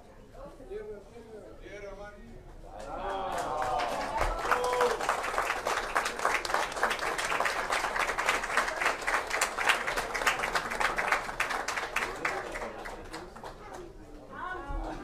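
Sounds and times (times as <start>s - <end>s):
crowd clapping: 2.7s - 15.0s.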